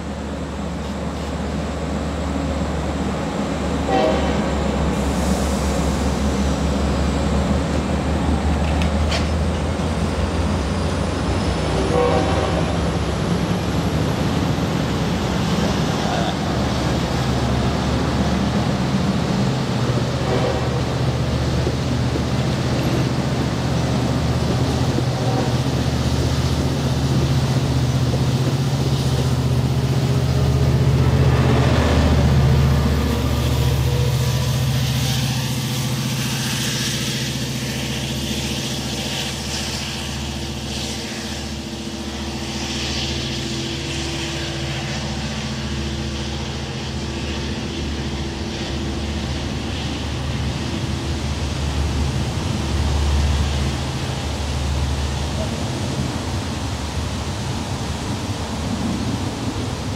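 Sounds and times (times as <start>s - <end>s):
diesel train engine humming: 0.0s - 59.9s.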